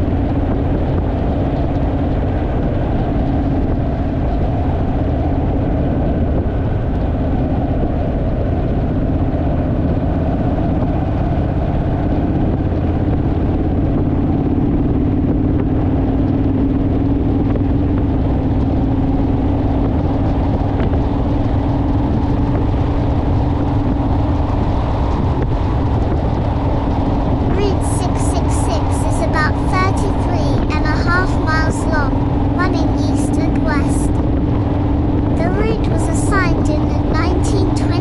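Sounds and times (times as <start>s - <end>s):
wind rush on microphone: 0.0s - 38.0s.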